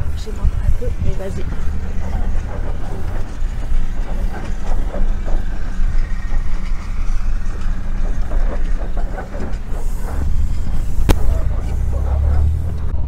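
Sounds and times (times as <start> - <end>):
body and load rattling: 0.0 - 13.0
truck engine low rumble: 0.0 - 13.0.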